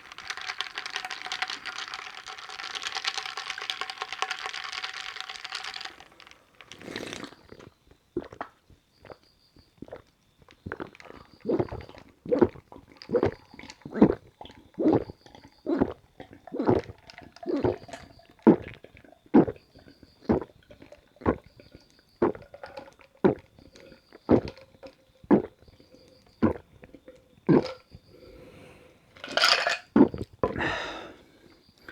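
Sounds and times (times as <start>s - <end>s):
person gulping: 2.6s - 9.2s, 9.8s - 10.1s, 10.7s - 28.0s, 29.2s - 31.2s.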